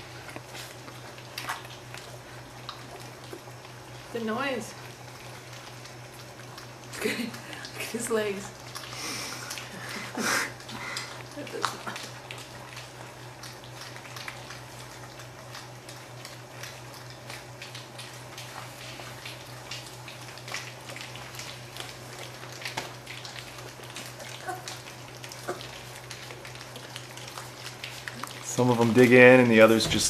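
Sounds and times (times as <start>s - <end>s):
puppies lapping food: 0.0s - 30.0s
steady low hum: 0.0s - 30.0s.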